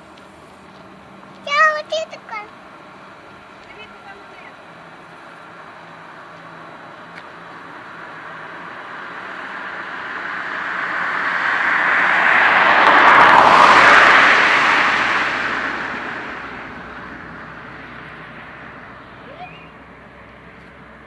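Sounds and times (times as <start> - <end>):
vehicle passing by: 0.0 - 21.0.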